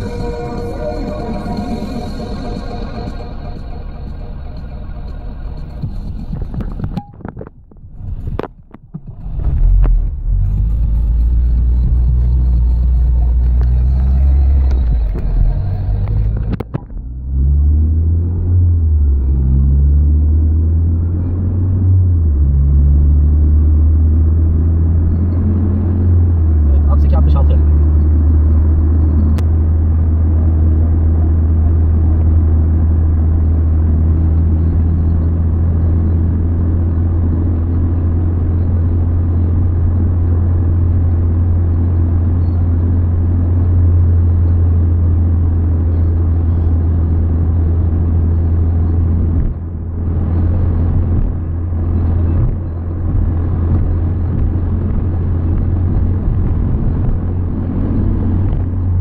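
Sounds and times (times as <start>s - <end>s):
car engine and tyres droning: 0.0s - 59.0s.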